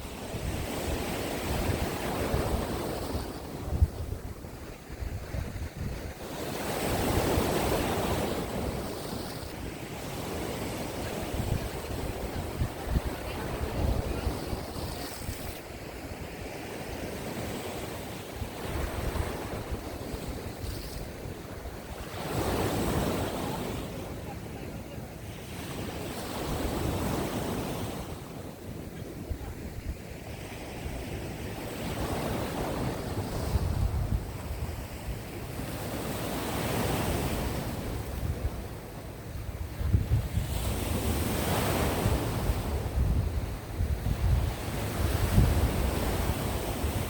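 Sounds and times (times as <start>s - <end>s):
sea waves washing onto shore: 0.0s - 47.0s
wind gusting on microphone: 0.0s - 47.0s.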